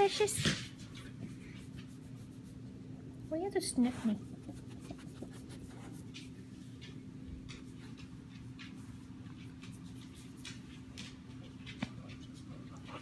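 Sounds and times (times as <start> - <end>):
dog sniffing and mouthing: 0.0 - 13.0.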